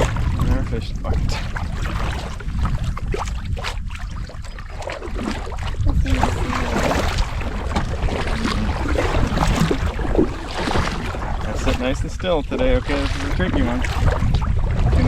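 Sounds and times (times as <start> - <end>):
water sloshing and splashing: 0.0 - 15.0
wind buffeting microphone: 0.0 - 15.0.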